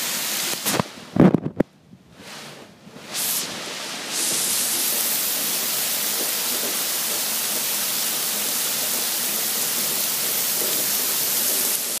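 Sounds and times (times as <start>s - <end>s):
heavy rain downpour: 0.0s - 1.2s, 3.2s - 12.0s.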